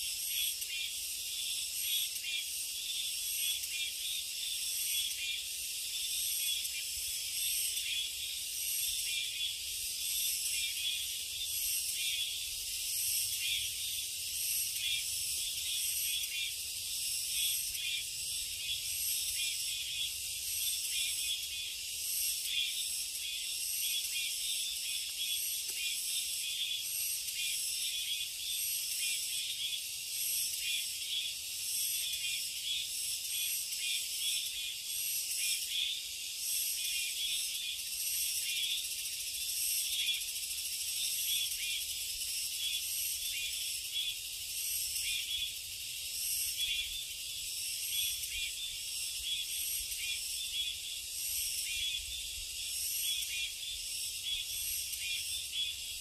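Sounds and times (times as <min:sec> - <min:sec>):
insects buzzing and trilling: 0:00.0 - 0:56.0.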